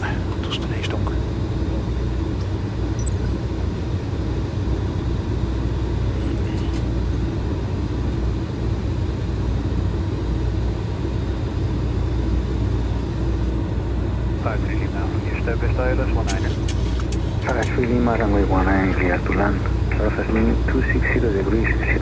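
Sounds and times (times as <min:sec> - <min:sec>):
low rumble of airflow and engines: 0:00.0 - 0:22.0.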